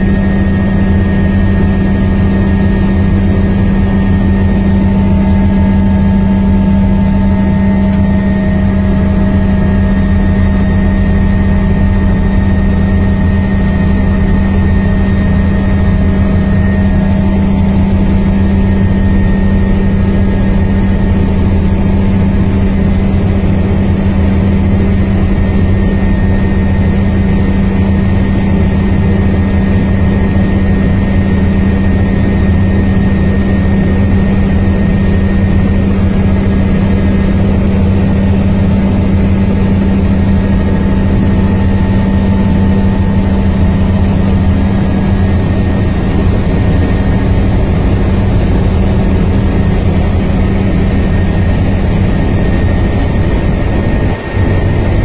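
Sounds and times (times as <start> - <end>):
helicopter cabin engine drone: 0.0 - 55.0.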